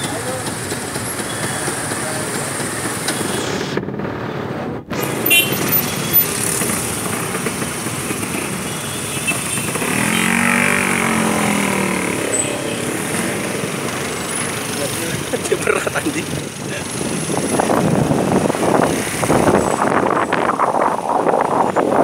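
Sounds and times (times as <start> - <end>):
scooter engines running: 0.0 - 4.2, 4.9 - 22.0
motorbike and car traffic: 0.0 - 22.0.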